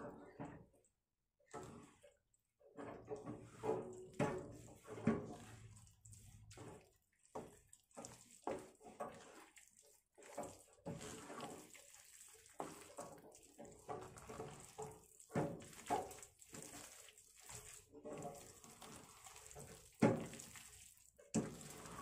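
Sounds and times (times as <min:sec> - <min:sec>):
wet batter stirred in pan: 0:00.0 - 0:22.0.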